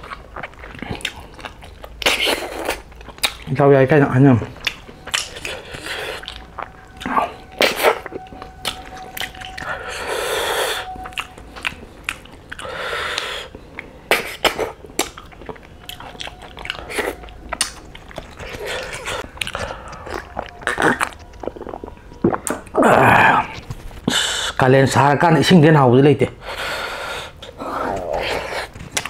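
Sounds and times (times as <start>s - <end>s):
chewing and sucking snails: 0.0s - 24.6s.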